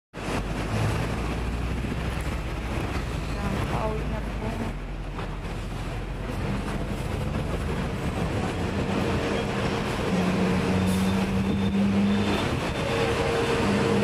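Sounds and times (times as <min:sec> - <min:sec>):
tram wheels rumbling on rails: 0:00.2 - 0:14.0.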